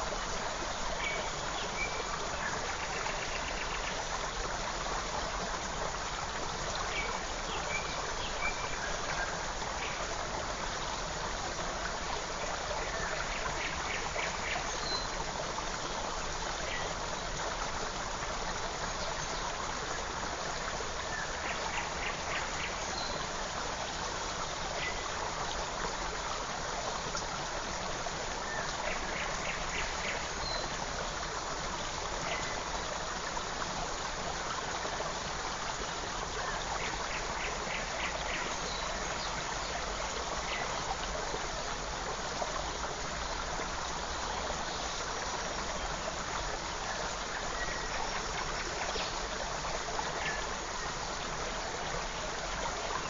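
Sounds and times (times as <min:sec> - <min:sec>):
creek water flowing: 0:00.0 - 0:53.0.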